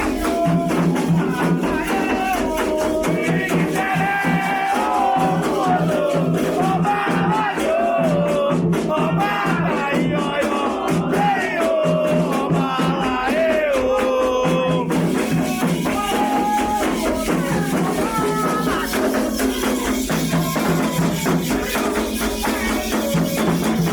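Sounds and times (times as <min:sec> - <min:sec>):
people singing a ritual chant: 0:00.0 - 0:23.9
steady percussion: 0:00.0 - 0:23.9.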